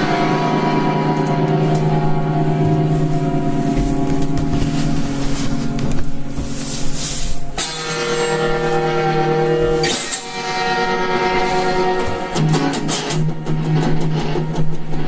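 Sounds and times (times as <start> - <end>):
instrumental music with sustained chords: 0.0 - 15.0.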